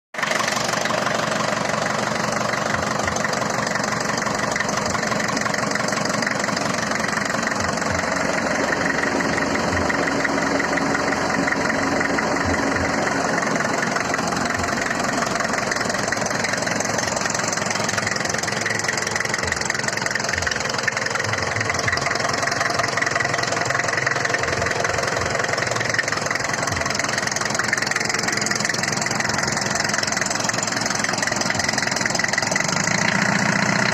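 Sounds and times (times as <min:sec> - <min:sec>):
diesel truck engine idling: 0:00.2 - 0:33.9.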